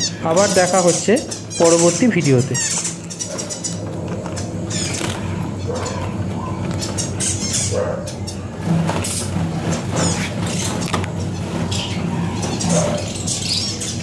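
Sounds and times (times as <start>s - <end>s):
caged birds chirping: 0.0s - 14.0s
steady low hum: 0.0s - 14.0s.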